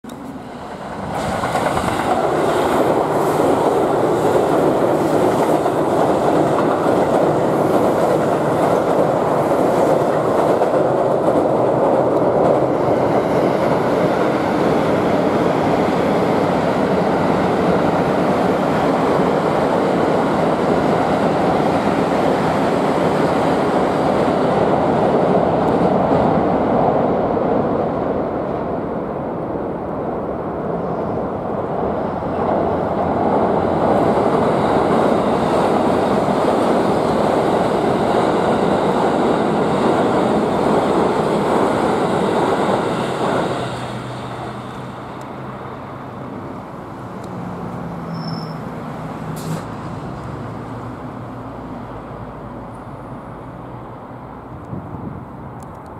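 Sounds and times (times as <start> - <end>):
train crossing a steel bridge: 0.0 - 55.9.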